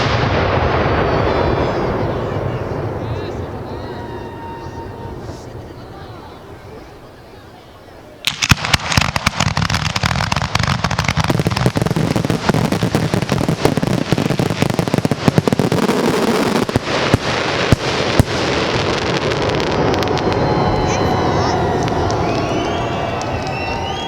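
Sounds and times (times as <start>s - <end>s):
loud firework bangs: 0.0s - 7.0s, 8.2s - 24.0s
fireworks barrage: 0.0s - 24.0s.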